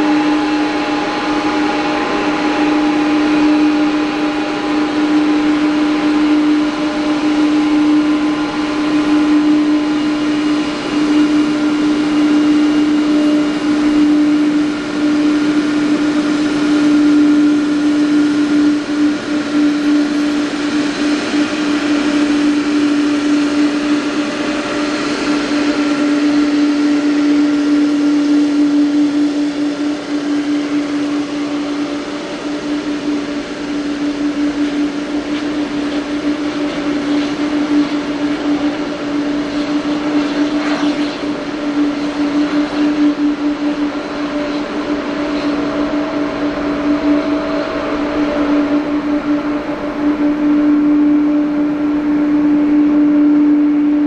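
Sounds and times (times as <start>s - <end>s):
jet engines whining at taxi power: 0.0s - 54.0s.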